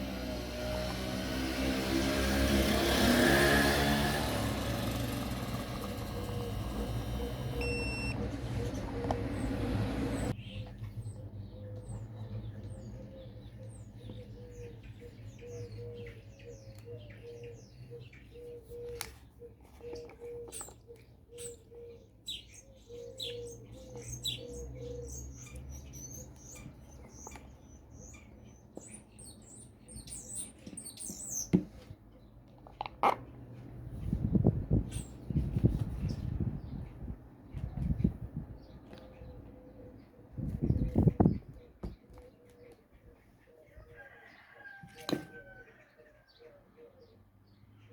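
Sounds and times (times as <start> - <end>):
small birds chirping: 4.6 - 47.9.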